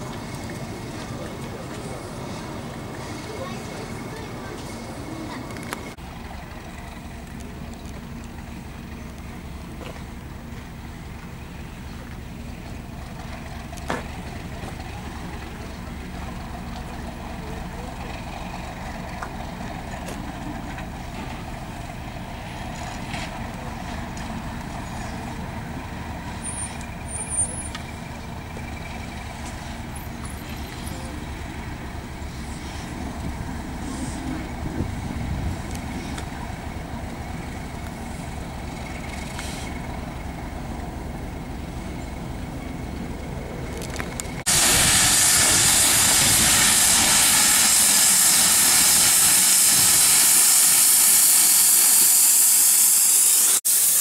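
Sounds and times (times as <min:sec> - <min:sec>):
steam locomotive hissing: 0:00.0 - 0:43.6, 0:44.4 - 0:54.0
diesel locomotive engine rumbling: 0:00.0 - 0:54.0.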